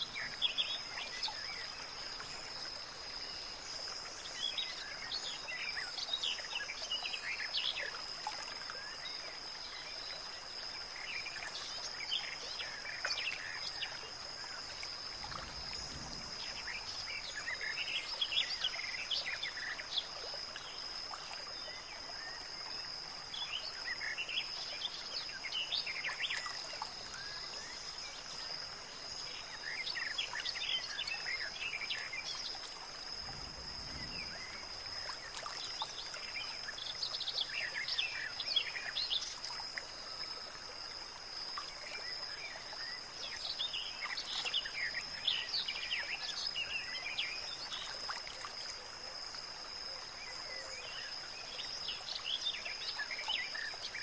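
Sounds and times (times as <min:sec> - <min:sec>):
soft hiss: 0:00.0 - 0:54.0.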